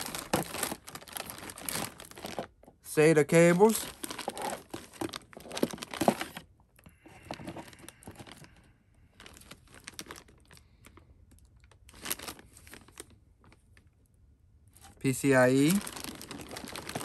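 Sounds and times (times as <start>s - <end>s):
plastic bag crinkling: 0.0s - 8.6s, 9.2s - 13.7s, 14.8s - 17.0s.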